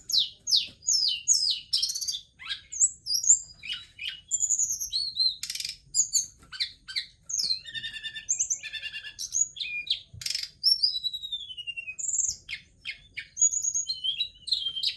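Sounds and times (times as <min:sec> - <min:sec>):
songbird singing: 0:00.0 - 0:14.9.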